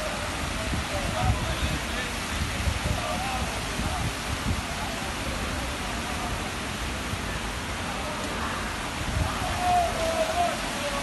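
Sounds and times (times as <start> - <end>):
rushing falling water: 0.0 - 11.0.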